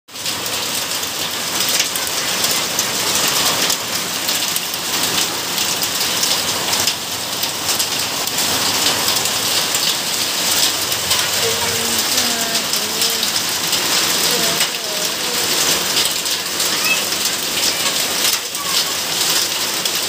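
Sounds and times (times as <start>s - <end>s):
hail and heavy rain pelting: 0.1s - 20.0s.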